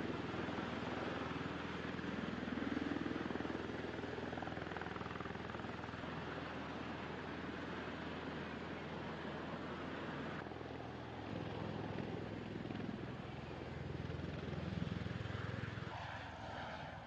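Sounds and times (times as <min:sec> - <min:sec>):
aircraft rotors and turbines: 0:00.0 - 0:17.0.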